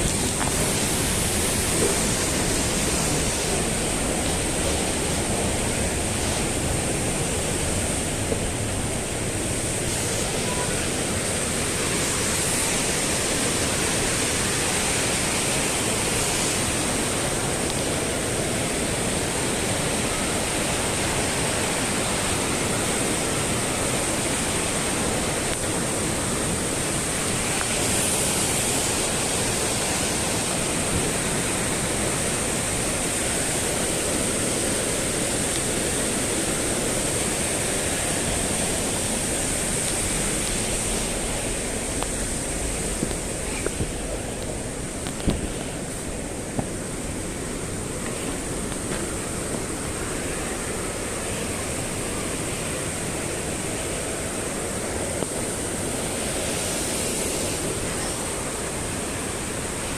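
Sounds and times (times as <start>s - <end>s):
thin high hiss: 0.0s - 59.9s
whitewater rushing: 0.0s - 59.9s.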